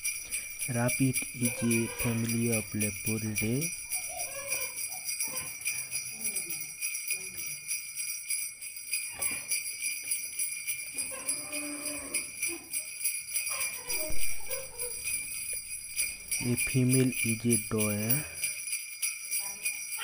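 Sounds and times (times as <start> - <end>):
high continuous jingling: 0.0 - 20.0.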